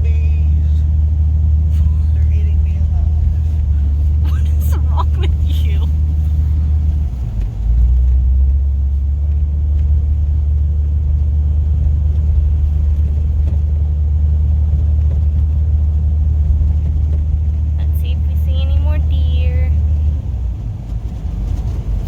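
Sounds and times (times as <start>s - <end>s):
car rumbling while moving: 0.0s - 22.0s.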